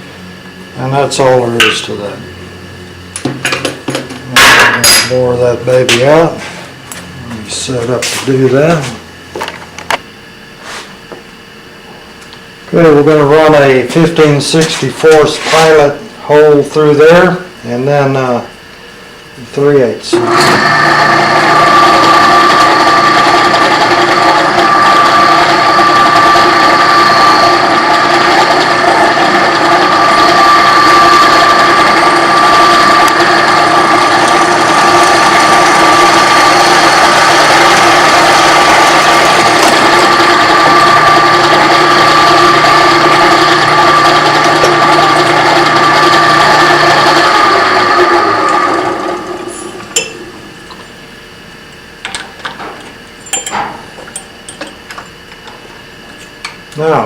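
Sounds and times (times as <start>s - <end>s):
drill press whining: 0.0s - 57.0s.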